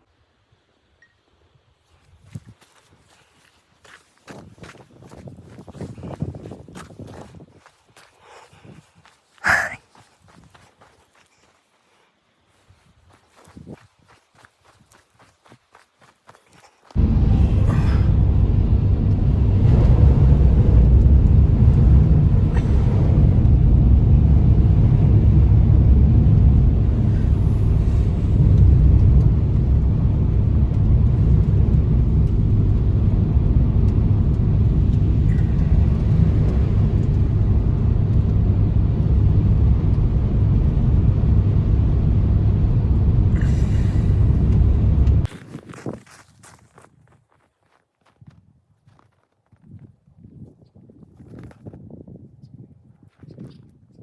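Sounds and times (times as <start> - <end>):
strong wind buffeting microphone: 1.9 - 10.8, 12.6 - 15.0, 17.0 - 46.3, 49.5 - 54.0.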